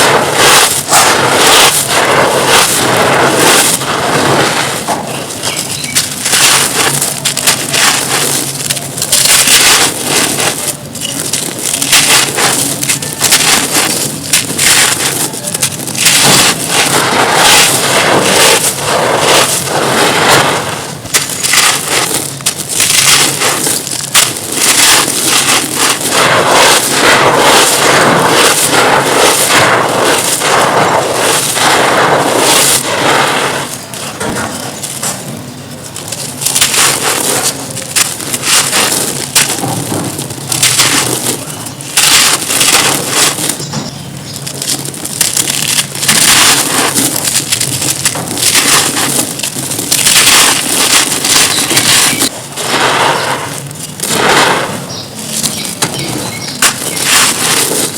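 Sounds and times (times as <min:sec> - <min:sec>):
dry chunks crunching: 0:00.0 - 0:57.9.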